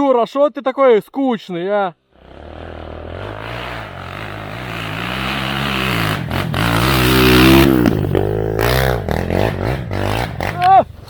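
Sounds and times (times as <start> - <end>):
dirt bike engine revving: 2.1 - 11.0.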